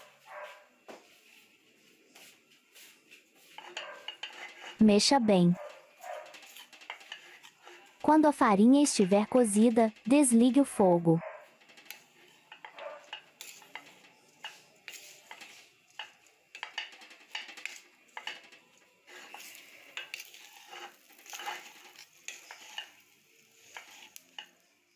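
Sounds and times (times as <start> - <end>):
wooden spoon scraping pan: 2.8 - 10.6, 11.5 - 24.6.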